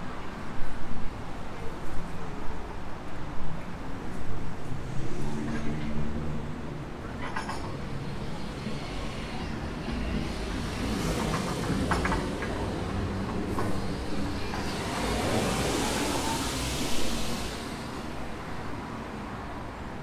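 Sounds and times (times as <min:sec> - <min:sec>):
road traffic noise: 0:01.3 - 0:20.0.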